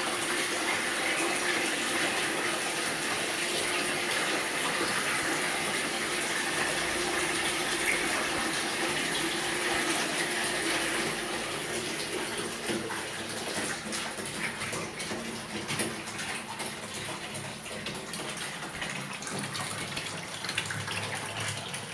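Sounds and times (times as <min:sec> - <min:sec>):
water splashing and dripping: 0:00.0 - 0:21.9
water spraying into bathtub: 0:00.0 - 0:21.9.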